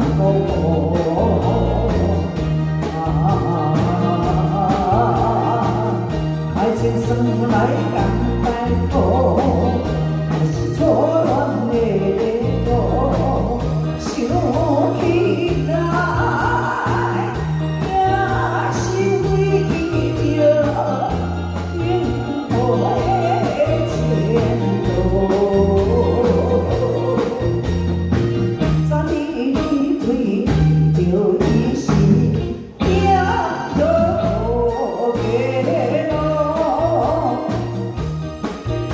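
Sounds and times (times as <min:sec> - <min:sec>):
bass guitar: 0:00.0 - 0:38.9
drums: 0:00.0 - 0:38.9
electric guitar: 0:00.0 - 0:38.9
person singing: 0:00.0 - 0:38.9.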